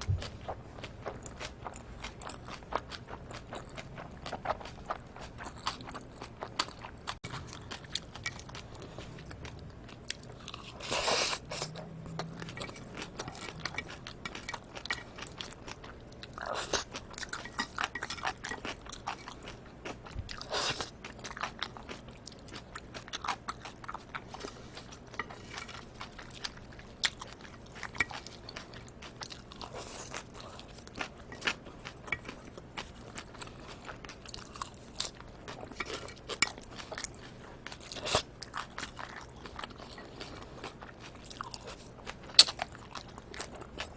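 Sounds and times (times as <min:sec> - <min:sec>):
wet chewing: 0:00.0 - 0:43.9.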